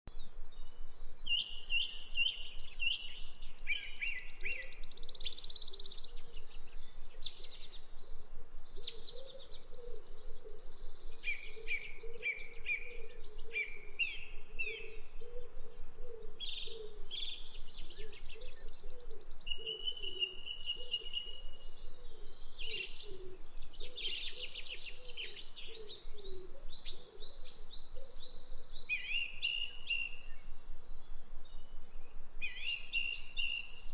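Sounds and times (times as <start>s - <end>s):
songbirds chirping and trilling: 0.1s - 33.9s.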